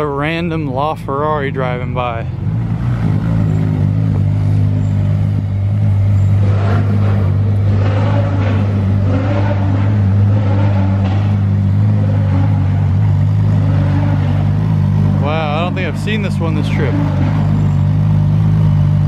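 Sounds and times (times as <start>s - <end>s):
car engine droning at low revs: 0.0s - 19.0s.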